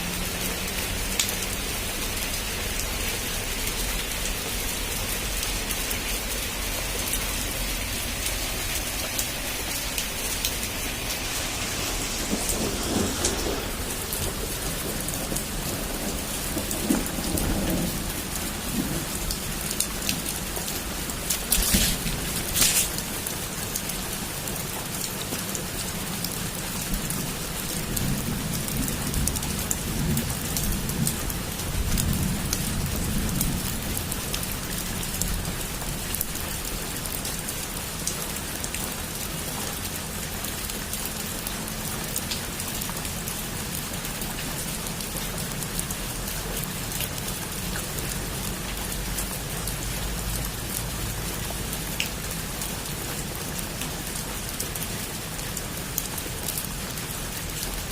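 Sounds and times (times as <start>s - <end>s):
heavy rain on a roof: 0.0s - 57.9s.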